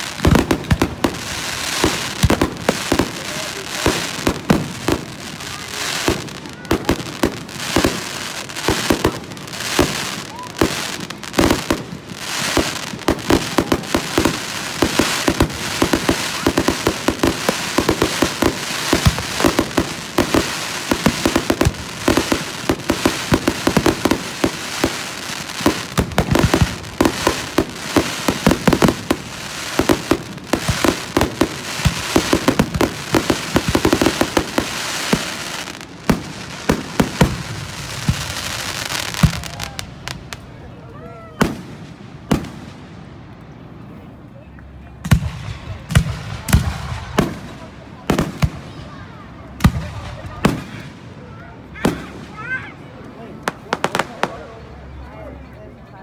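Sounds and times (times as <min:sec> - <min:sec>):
fireworks bangs: 0:00.0 - 0:40.6, 0:41.4 - 0:43.1, 0:45.0 - 0:55.0
fireworks crackling: 0:00.0 - 0:43.6, 0:44.6 - 0:55.1.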